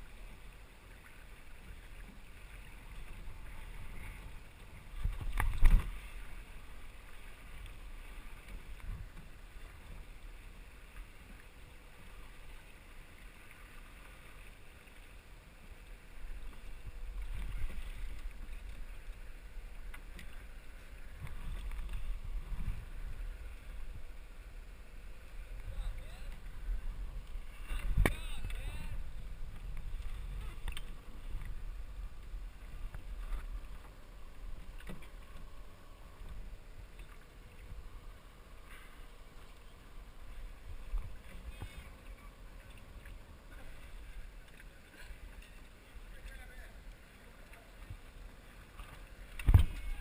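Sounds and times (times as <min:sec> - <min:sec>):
water washing along a hull: 0:00.0 - 0:50.0.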